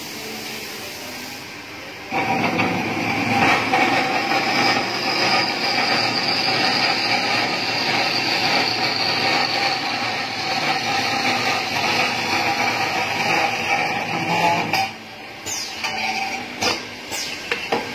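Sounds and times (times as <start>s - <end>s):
mechanical noise: 0.0s - 17.9s
circular blade whining: 2.1s - 17.4s.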